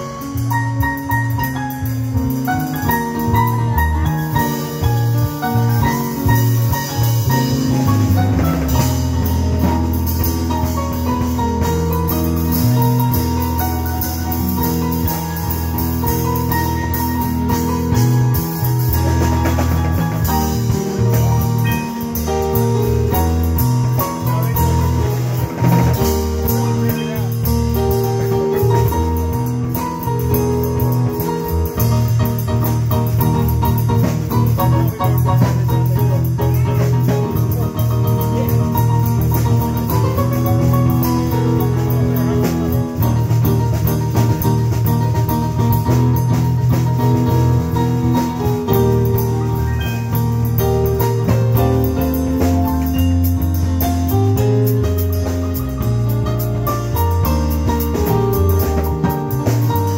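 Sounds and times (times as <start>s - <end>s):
bass line: 0.0s - 59.9s
drum kit with cymbals: 0.0s - 59.9s
keyboard: 0.0s - 59.9s.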